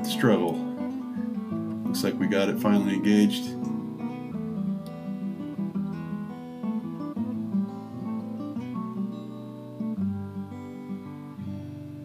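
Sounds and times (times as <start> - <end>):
acoustic guitar plucked and strummed: 0.0 - 12.0.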